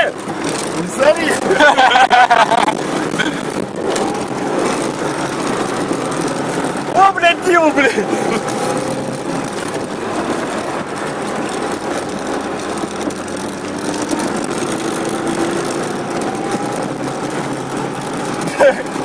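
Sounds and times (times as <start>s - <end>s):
car engine running inside cabin: 0.0s - 19.0s.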